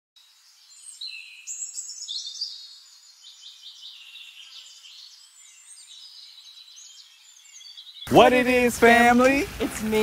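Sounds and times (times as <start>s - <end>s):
small birds chirping and trilling: 0.2s - 10.0s.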